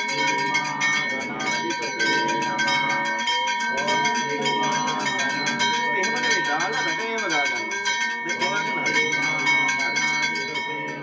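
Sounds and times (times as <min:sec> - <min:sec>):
crowd voices: 0:00.0 - 0:11.0
temple bell ringing: 0:00.0 - 0:11.0.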